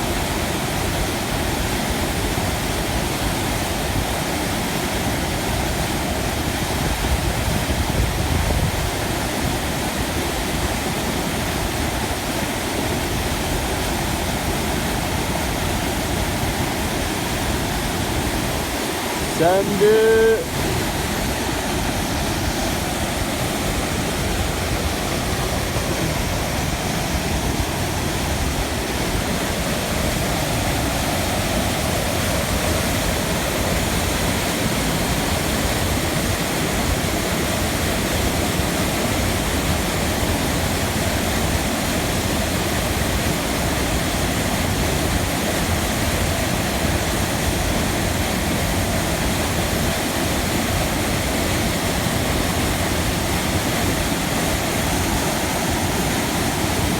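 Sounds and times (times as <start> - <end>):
rushing river water: 0.0 - 56.9.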